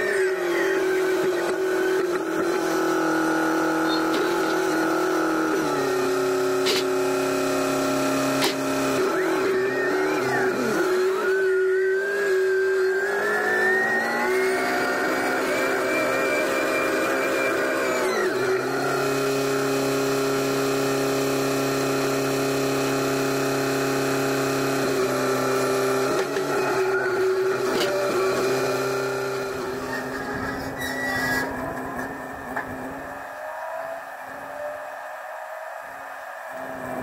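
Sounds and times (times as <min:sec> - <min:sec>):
telehandler engine running: 0:00.0 - 0:37.0.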